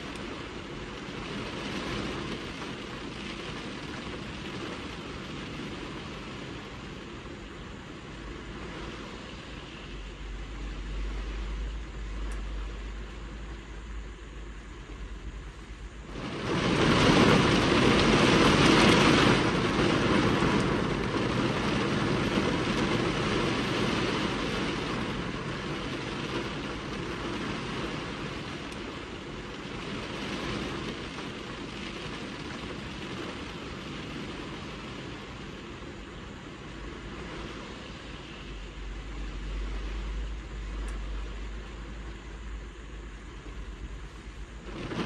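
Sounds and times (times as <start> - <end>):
rain on car windscreen: 0.0 - 45.0.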